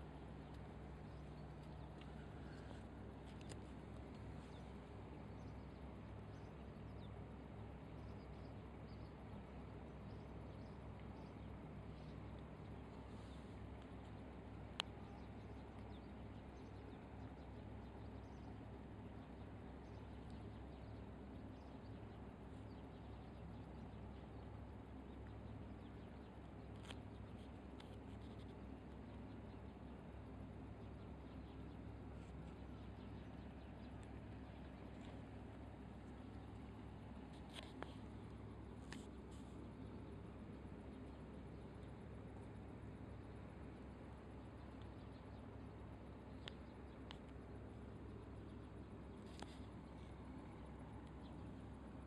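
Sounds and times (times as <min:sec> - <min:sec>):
low hum and hiss: 0:00.0 - 0:52.0
small birds chirping: 0:00.0 - 0:52.0
steady low rumble: 0:00.0 - 0:52.0.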